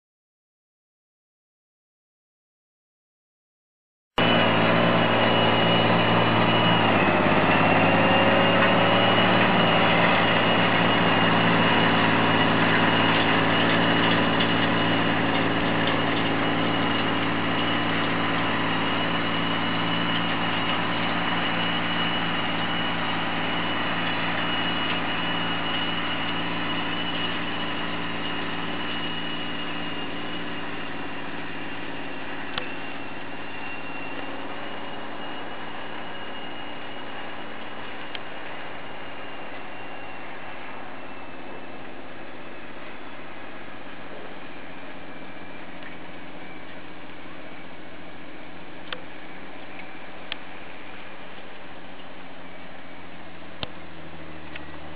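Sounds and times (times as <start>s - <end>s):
tractor diesel engine under load: 4.2s - 54.9s.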